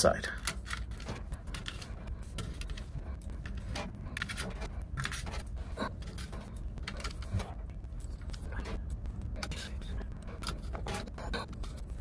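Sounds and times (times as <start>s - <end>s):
small clicks and scrapes of handling: 0.2s - 12.0s
faint low rumble: 0.8s - 12.0s.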